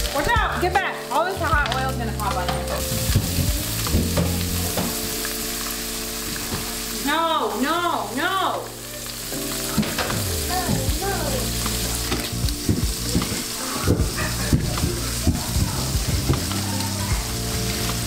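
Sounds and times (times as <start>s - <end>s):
peppers sizzling in hot oil: 0.0s - 18.0s.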